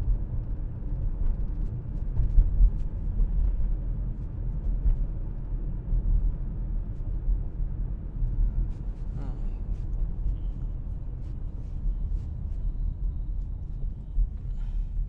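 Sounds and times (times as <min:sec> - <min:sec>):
car interior driving rumble: 0:00.0 - 0:15.0.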